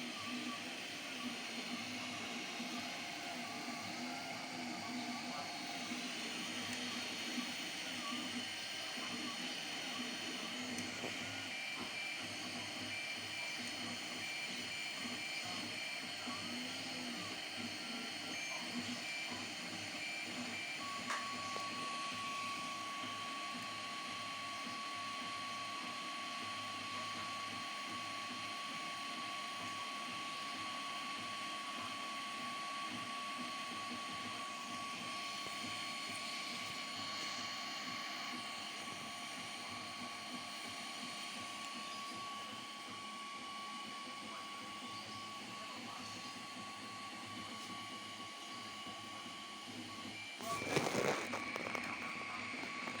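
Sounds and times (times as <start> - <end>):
stepper motors whining: 0.0 - 25.0, 29.6 - 53.0
printer fan hiss and hum: 0.0 - 53.0.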